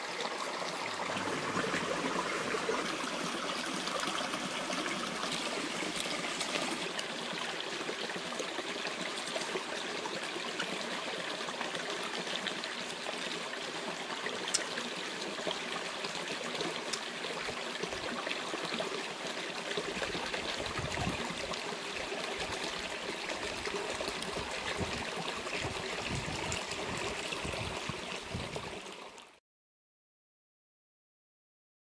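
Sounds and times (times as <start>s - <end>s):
flowing stream: 0.0s - 29.4s.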